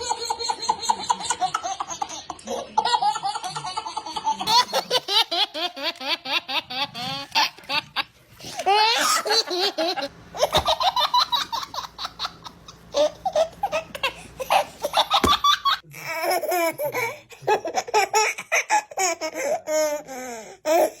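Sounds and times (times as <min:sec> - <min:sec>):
baby laughing: 0:00.0 - 0:21.0.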